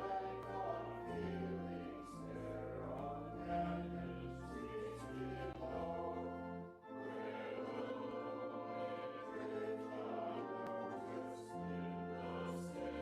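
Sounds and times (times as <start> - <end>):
congregation singing a hymn: 0.0 - 13.0
organ playing: 0.0 - 13.0.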